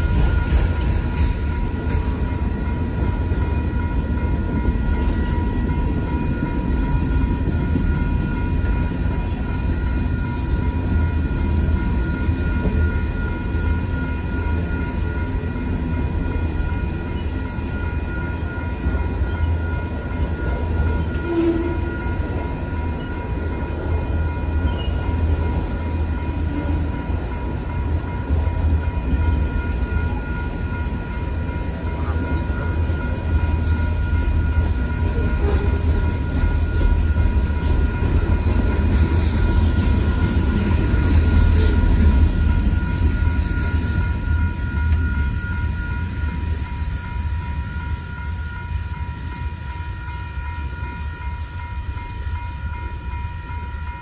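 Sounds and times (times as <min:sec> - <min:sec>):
crossing warning bell ringing: 0:00.0 - 0:54.0
train wheels rumbling on rail: 0:00.0 - 0:54.0.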